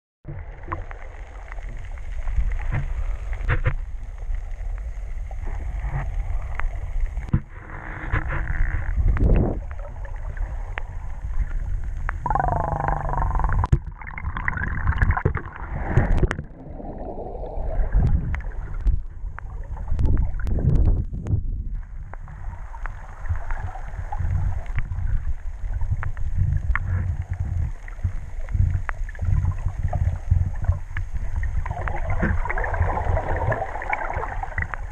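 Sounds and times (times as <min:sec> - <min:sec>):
muffled underwater surf rumble: 0:00.3 - 0:34.9
gurgling bubbles: 0:05.3 - 0:21.1, 0:22.1 - 0:34.9.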